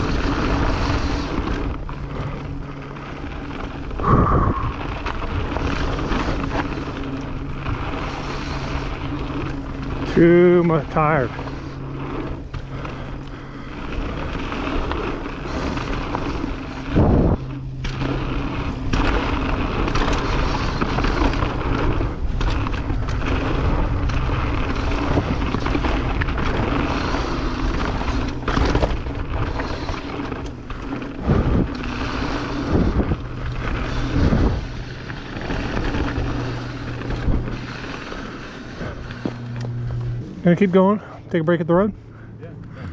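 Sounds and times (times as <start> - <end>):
low hum: 0.0 - 42.9
tyre and wind noise: 0.0 - 42.9
bike knocks and rattles: 4.9 - 40.2.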